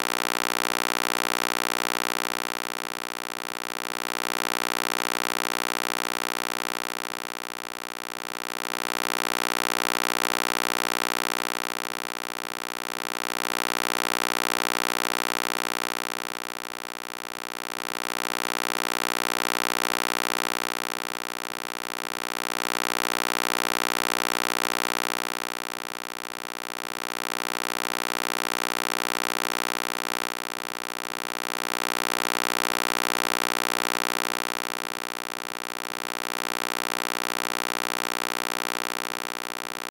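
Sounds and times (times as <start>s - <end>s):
electronic hum of stacked tones: 0.0s - 39.9s.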